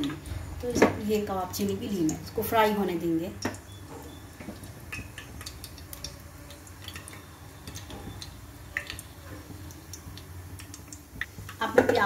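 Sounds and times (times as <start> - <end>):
spices popping in hot oil: 0.0 - 12.0.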